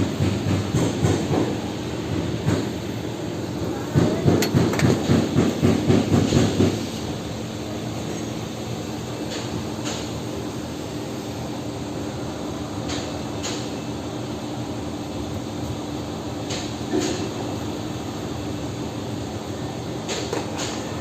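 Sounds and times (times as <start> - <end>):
machinery hum: 0.0 - 21.0.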